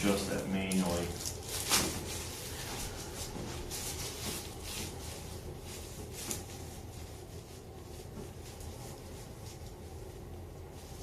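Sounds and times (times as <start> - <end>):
low steady hum: 0.0 - 11.0
soft rustling and handling: 0.0 - 11.0.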